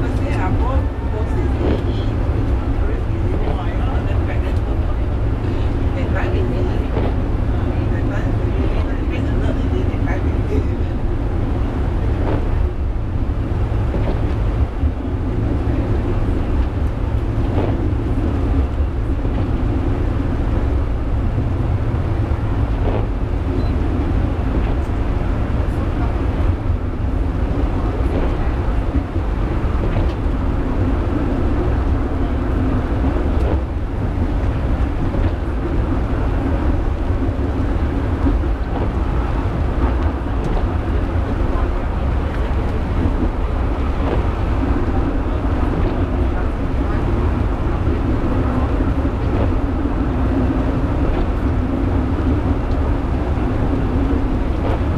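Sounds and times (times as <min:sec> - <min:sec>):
funicular car rumbling: 0:00.0 - 0:54.9.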